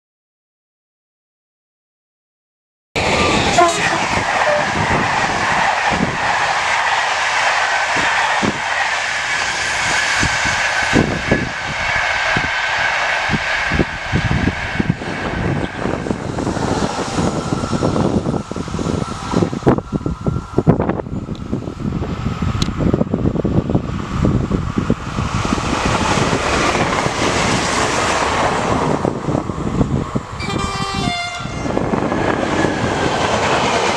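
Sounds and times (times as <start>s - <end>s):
train rushing past: 3.0s - 33.9s.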